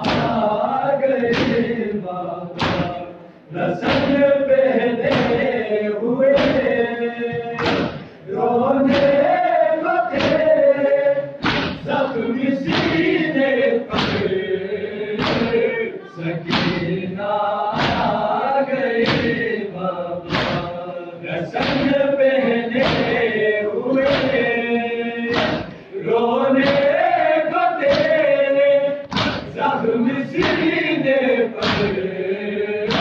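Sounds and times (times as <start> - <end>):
chest beating in rhythm: 0.0 - 33.0
men chanting in unison: 0.0 - 33.0.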